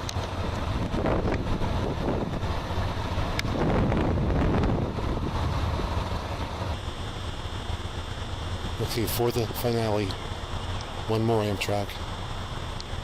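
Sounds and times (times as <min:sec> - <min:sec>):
low rumble: 0:00.0 - 0:13.0
wind buffeting microphone: 0:00.0 - 0:13.0.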